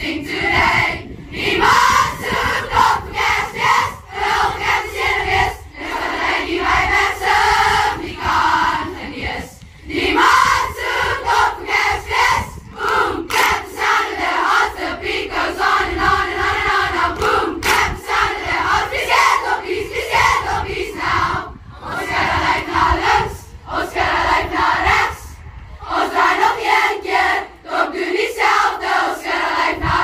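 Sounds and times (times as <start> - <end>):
crowd chanting in unison: 0.0 - 30.0.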